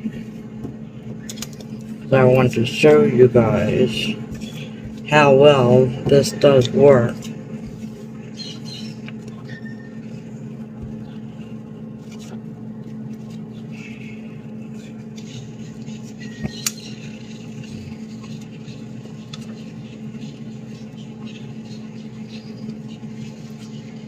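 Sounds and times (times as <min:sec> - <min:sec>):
machine hum: 0:00.0 - 0:24.0
paper towel wiping plastic: 0:01.9 - 0:24.0.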